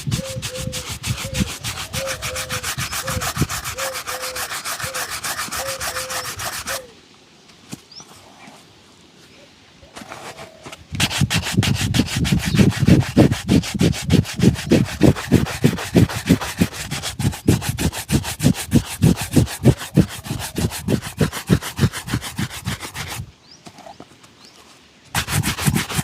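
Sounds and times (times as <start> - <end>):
brush rubbing a shoe: 0.0 - 6.9, 10.0 - 23.3, 25.1 - 26.0.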